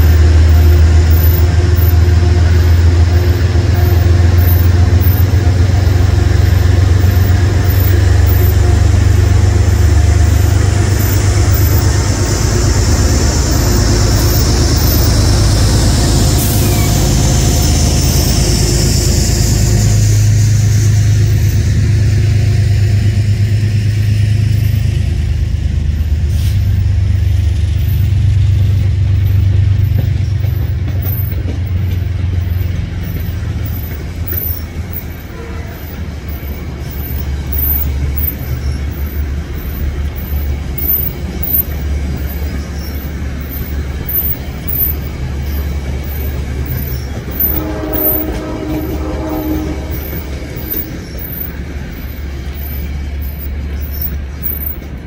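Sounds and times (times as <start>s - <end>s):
electric train rolling past: 0.0s - 55.0s.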